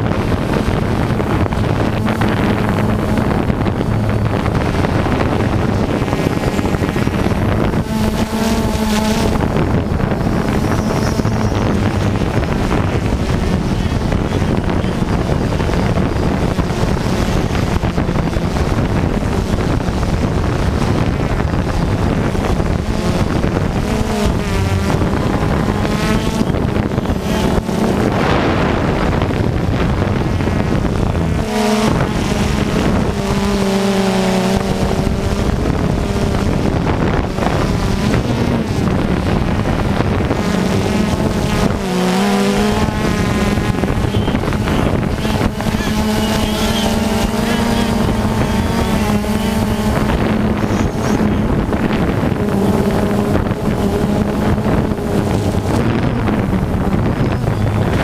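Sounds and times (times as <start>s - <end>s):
rc car motors revving: 0.0s - 58.0s
wind buffeting microphone: 0.0s - 58.0s.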